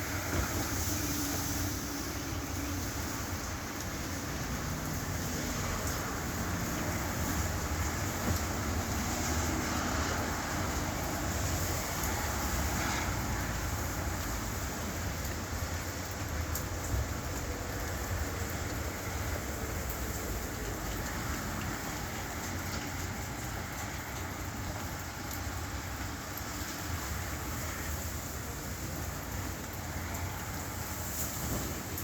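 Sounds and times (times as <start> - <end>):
rain and traffic on wet road: 0.0 - 32.0.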